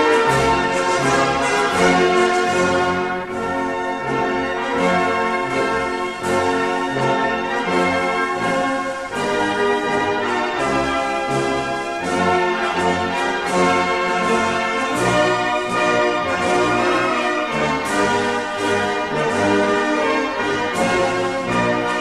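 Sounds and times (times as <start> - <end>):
orchestral brass music: 0.0 - 22.0.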